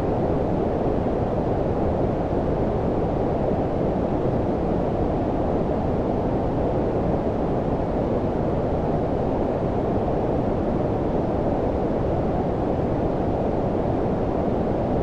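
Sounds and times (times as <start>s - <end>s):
brown noise rumble-hiss: 0.0s - 15.0s.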